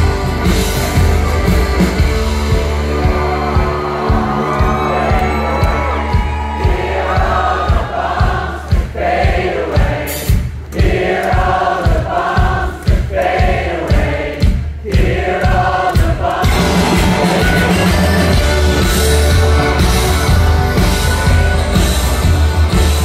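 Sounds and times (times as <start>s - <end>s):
live rock band: 0.0s - 23.0s
crowd singing along: 3.2s - 23.0s.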